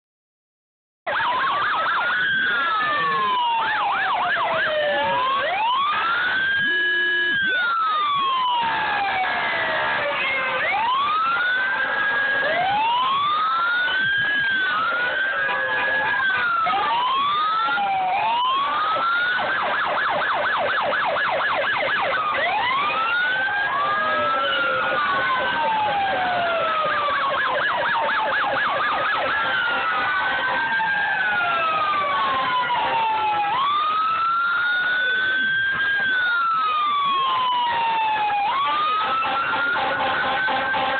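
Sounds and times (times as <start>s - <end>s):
emergency vehicle sirens wailing: 1.1s - 40.9s.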